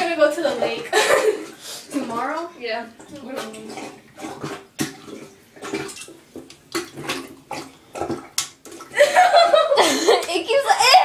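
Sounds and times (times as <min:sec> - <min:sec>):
toilet plunger sloshing water: 0:00.0 - 0:10.7.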